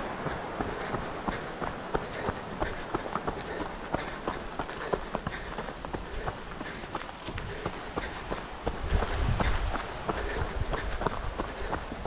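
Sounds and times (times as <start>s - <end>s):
running footsteps on dirt trail: 0.0s - 12.0s.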